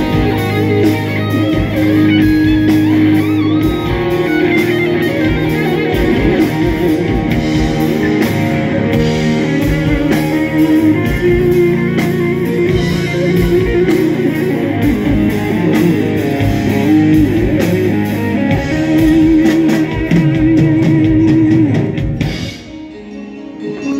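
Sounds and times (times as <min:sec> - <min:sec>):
drums: 0:00.0 - 0:23.9
electric guitar lead lines: 0:00.0 - 0:23.9.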